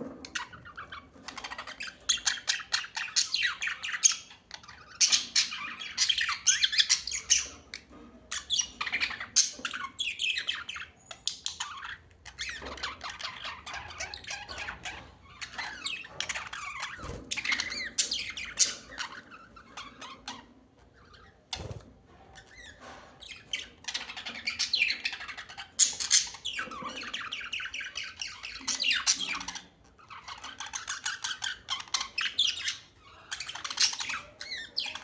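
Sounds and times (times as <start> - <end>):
birds chirping and squawking: 0.0 - 35.0.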